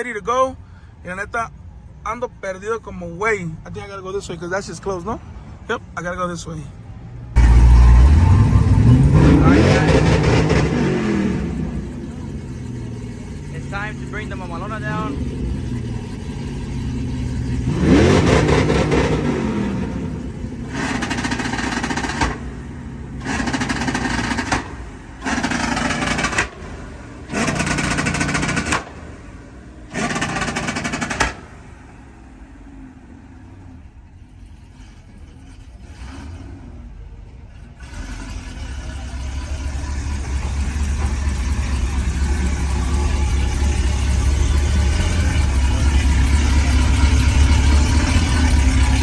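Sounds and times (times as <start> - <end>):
truck engine revving: 7.0 - 49.0.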